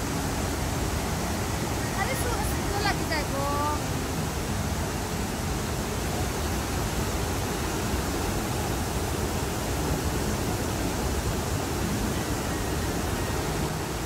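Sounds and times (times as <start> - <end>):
white water rushing over rocks: 0.0 - 14.0.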